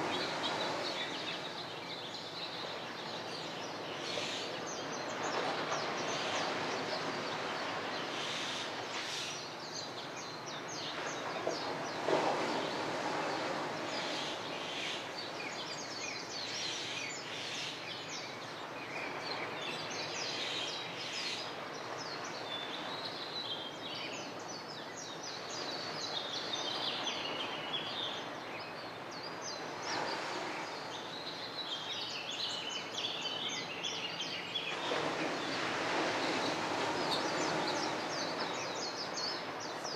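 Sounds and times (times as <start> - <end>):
outdoor background rush: 0.0 - 39.9.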